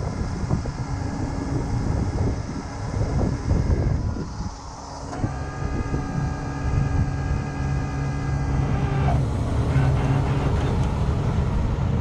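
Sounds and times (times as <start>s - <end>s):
hydraulic winch whine: 0.0s - 12.0s
truck engine running under load: 0.0s - 12.0s.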